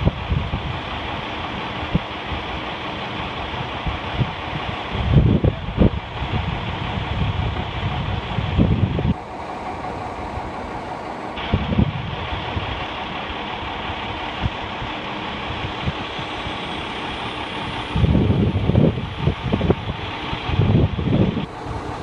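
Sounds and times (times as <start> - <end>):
engine running: 0.0 - 22.0
wind buffeting microphone: 0.0 - 22.0.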